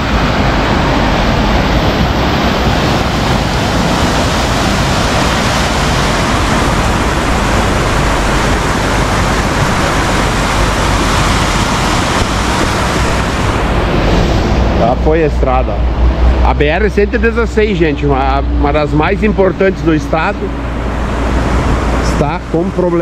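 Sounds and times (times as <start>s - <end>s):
floodwater rushing torrent: 0.0s - 23.0s.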